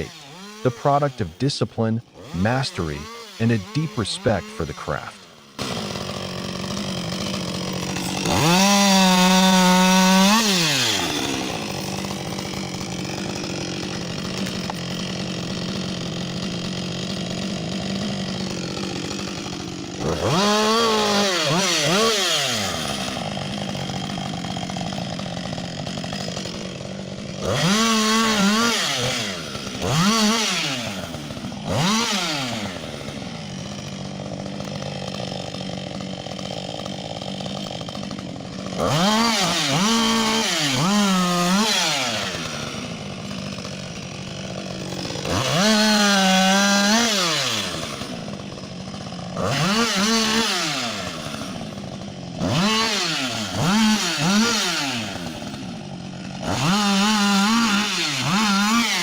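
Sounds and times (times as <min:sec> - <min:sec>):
chainsaw revving through log: 0:00.0 - 0:59.0.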